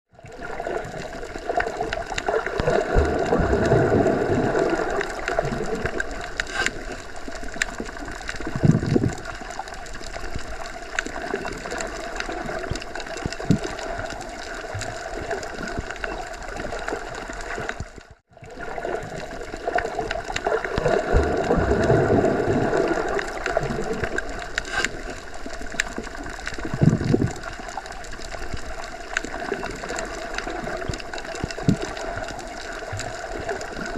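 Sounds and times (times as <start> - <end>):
muffled underwater rush: 0.2 - 33.9.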